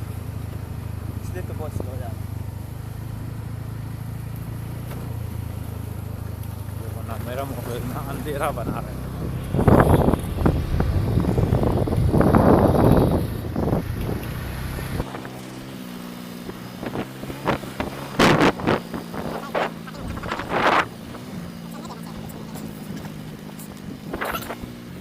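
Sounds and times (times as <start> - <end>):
road and wind rumble: 0.0 - 25.0
vehicle engine hum: 0.0 - 25.0.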